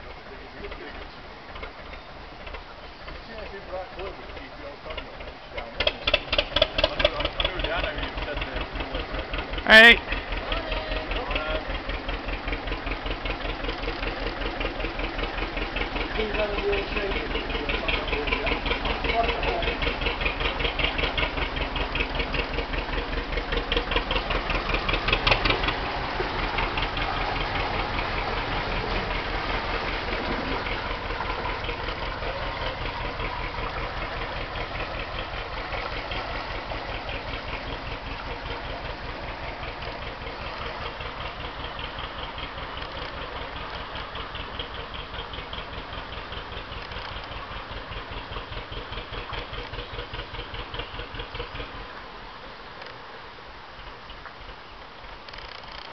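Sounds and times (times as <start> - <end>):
boat engine slow beat: 0.0 - 55.9.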